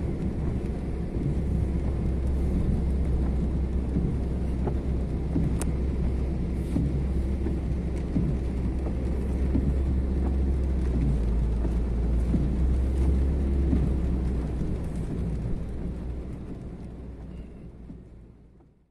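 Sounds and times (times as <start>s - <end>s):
water rushing and sloshing: 0.0s - 17.3s
engine and road rumble: 0.0s - 18.9s.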